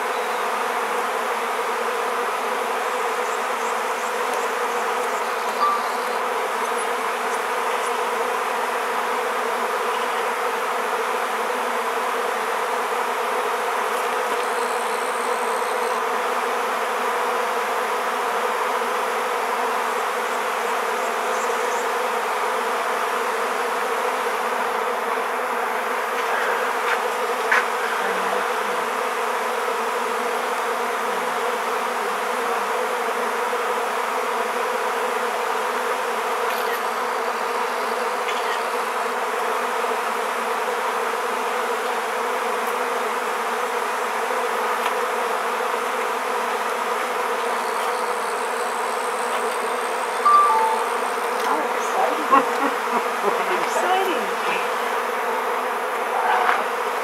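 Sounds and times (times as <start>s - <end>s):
swarm of bees buzzing: 0.0s - 57.0s.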